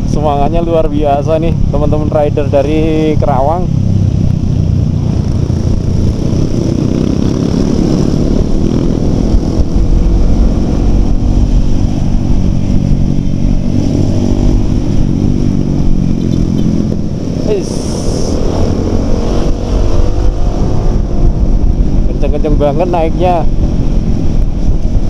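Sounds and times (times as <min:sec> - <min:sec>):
motorcycle engines running: 0:00.0 - 0:25.0
wind buffeting on microphone: 0:00.0 - 0:25.0.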